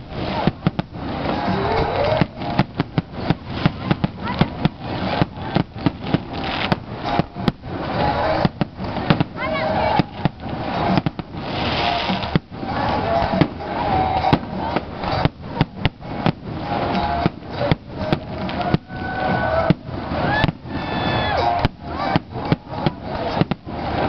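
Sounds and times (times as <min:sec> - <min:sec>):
continuous din: 0:00.0 - 0:24.0
firework shells bursting: 0:00.0 - 0:24.0.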